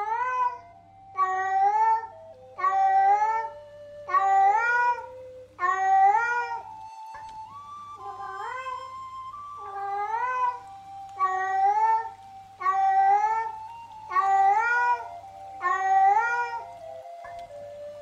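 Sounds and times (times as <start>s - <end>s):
cat meowing: 0.0s - 0.6s, 1.2s - 7.3s, 8.0s - 9.0s, 9.6s - 17.0s
faint steady music tone: 0.0s - 18.0s.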